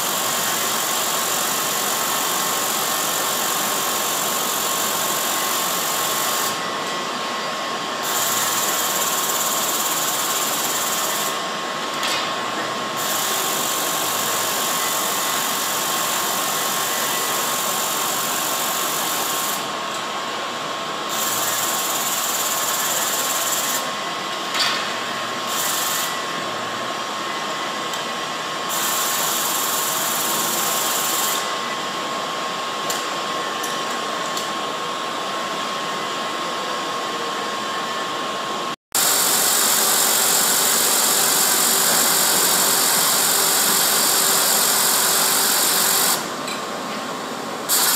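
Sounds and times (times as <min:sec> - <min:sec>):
sewing machine drone and whine: 0:00.0 - 0:47.9.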